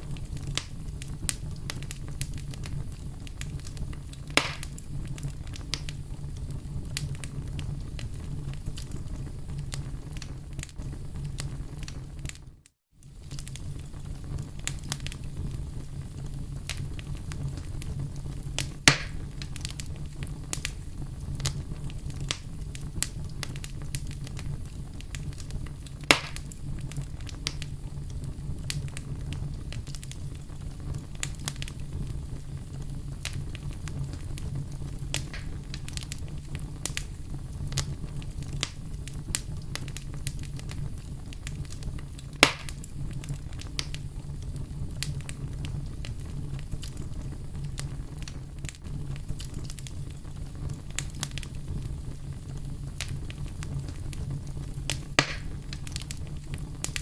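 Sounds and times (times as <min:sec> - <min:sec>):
loud snaps of fire: 0:00.0 - 0:57.0
wood fire crackling and popping: 0:00.0 - 0:57.0.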